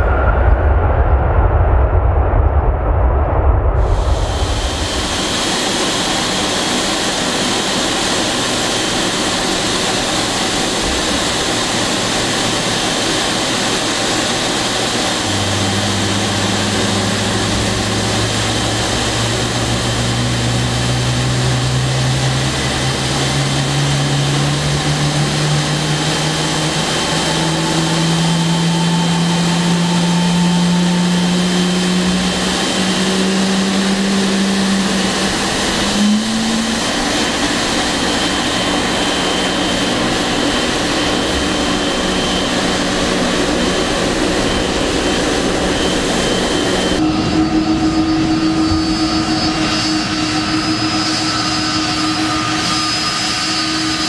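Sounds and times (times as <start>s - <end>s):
jet engine whine and rush: 0.0s - 54.0s
low hum rising in pitch: 0.0s - 54.0s.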